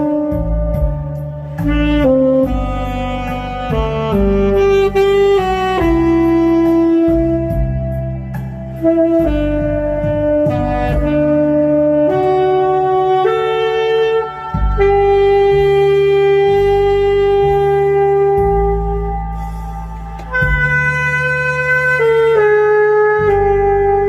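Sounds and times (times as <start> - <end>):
backing track with bass line: 0.0 - 24.0
saxophone melody: 0.0 - 24.0.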